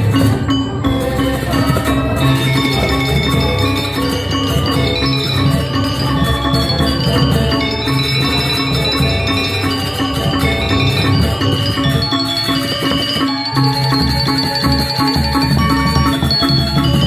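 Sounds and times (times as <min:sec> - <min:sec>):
gamelan metallophones ringing: 0:00.0 - 0:17.0.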